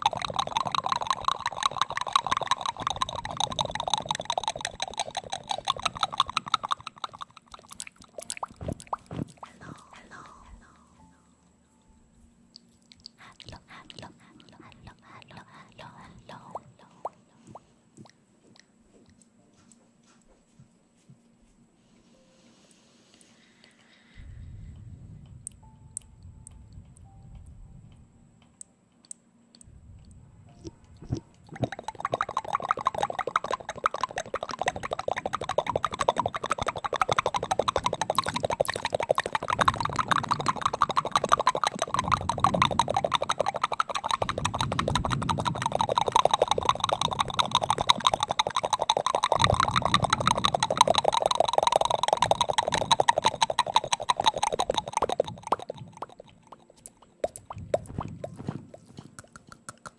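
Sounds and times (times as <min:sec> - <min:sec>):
wet mouth clicks and smacks: 0:00.0 - 0:10.8, 0:12.5 - 0:19.3, 0:28.6 - 0:59.9.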